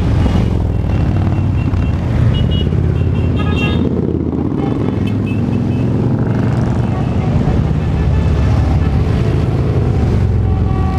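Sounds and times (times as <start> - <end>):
motorcycle engines running: 0.0 - 10.9.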